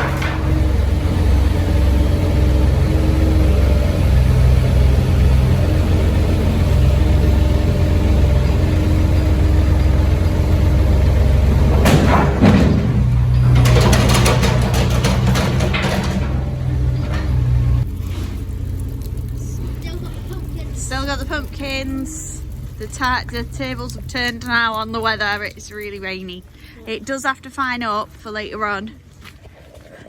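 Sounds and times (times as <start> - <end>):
heavy machinery engine running: 0.0 - 29.1.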